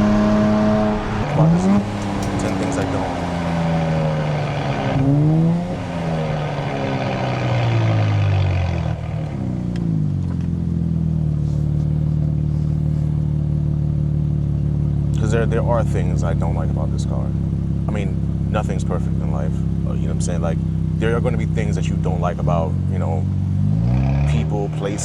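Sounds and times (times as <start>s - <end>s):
car engine under way: 0.0s - 25.0s.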